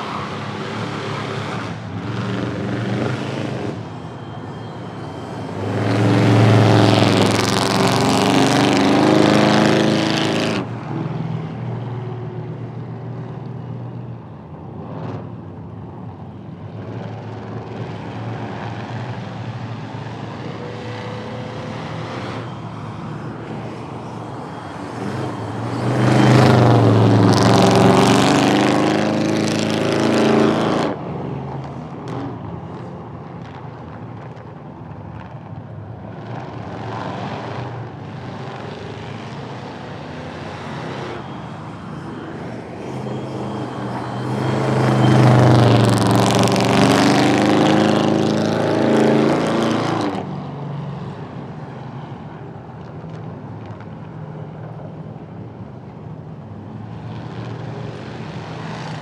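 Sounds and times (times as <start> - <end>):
drag racing car engines: 0.0 - 59.0.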